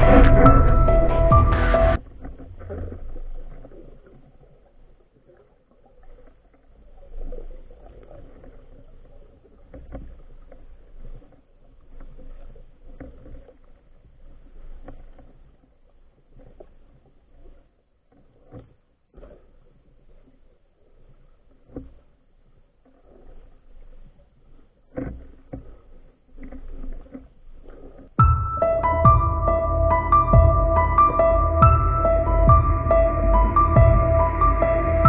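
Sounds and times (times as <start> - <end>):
muffled underwater water movement: 0.0 - 35.0.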